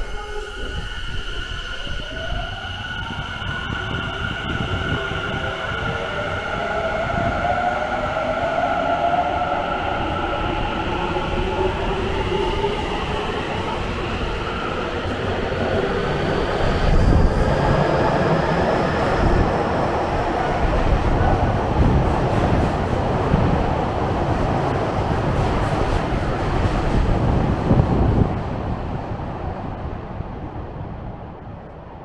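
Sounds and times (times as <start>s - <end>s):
wheels rumbling on rail: 3.0s - 31.9s.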